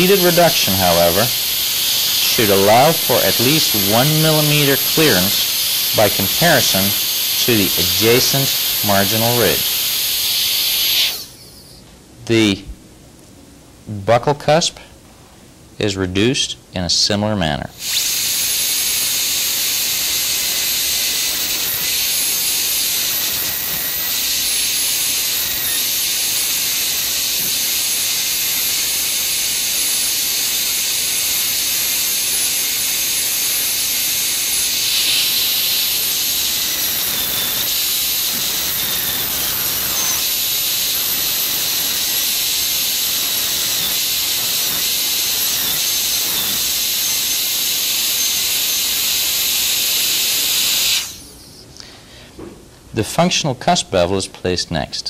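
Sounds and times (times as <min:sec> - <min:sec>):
dental drill whine: 0:00.0 - 0:11.9, 0:17.8 - 0:51.9.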